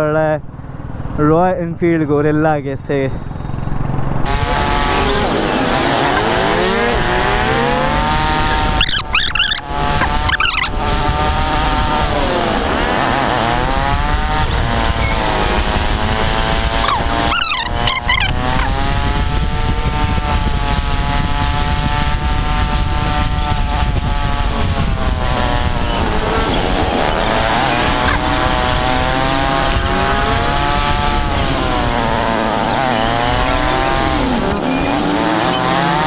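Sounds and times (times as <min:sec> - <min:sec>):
motorcycle engine under load: 0:03.1 - 0:36.0
wind on microphone: 0:04.2 - 0:36.0.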